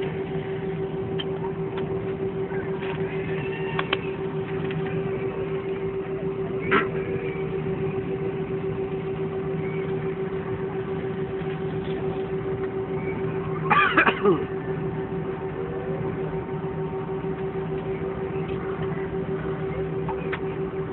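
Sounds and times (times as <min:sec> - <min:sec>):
airliner cabin hum: 0:00.0 - 0:20.9.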